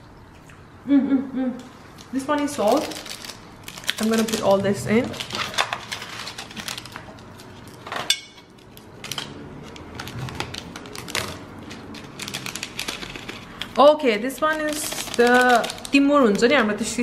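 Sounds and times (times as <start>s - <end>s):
foil sachets crinkling: 2.2s - 7.9s, 8.5s - 17.0s.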